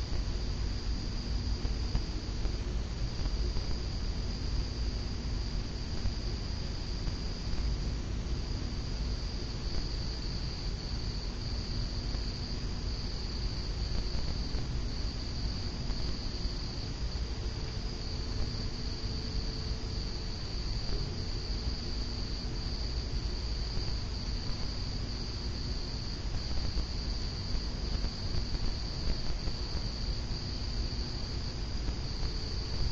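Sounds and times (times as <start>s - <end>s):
crickets chirring: 0.0s - 32.9s
low steady rumble: 0.0s - 32.9s.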